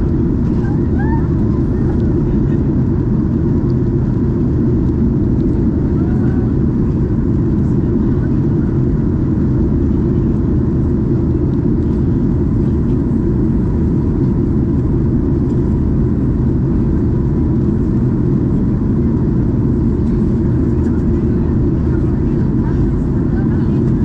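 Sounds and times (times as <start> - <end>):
airplane cabin noise: 0.0 - 24.0.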